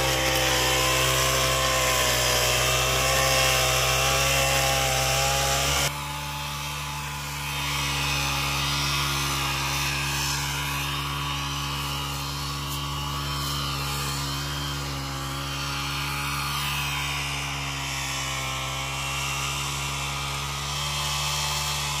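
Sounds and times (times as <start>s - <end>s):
brush cutter engine running: 0.0s - 22.0s.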